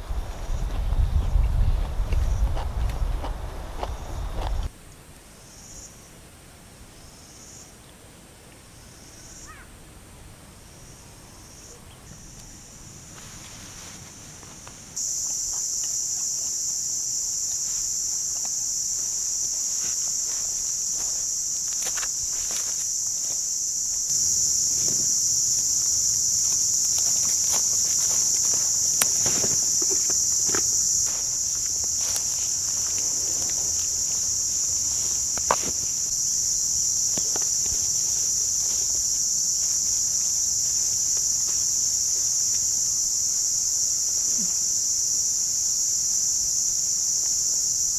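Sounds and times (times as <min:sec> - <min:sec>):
high-pitched insect chorus: 0:00.0 - 0:04.7, 0:05.4 - 0:06.1, 0:06.9 - 0:07.8, 0:08.7 - 0:09.7, 0:10.5 - 0:47.9.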